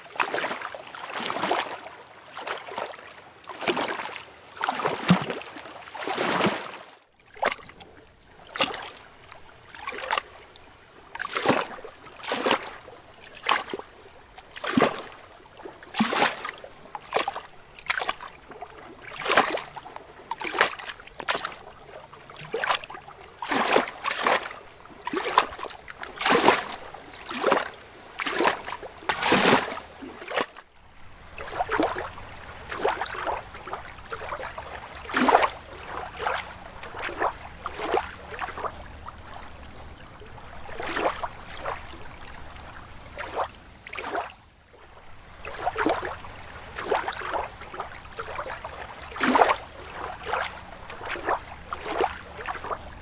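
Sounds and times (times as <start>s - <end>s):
lake water lapping and splashing: 0.0s - 53.0s.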